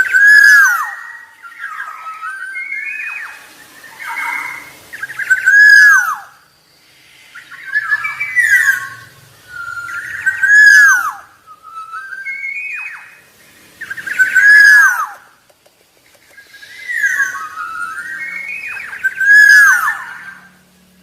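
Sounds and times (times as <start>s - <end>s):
bird singing fluty whistles: 0.0s - 15.4s, 16.3s - 20.7s.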